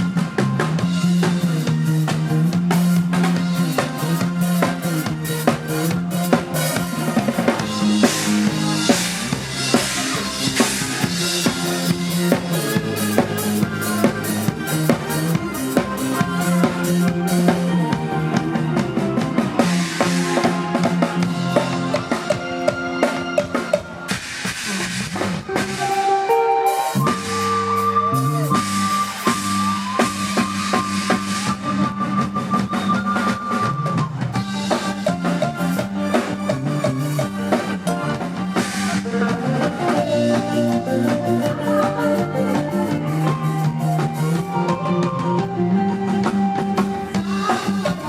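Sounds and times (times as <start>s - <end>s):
bass: 0.0s - 48.0s
drum kit beat: 0.0s - 48.0s
keyboard lines: 0.0s - 48.0s.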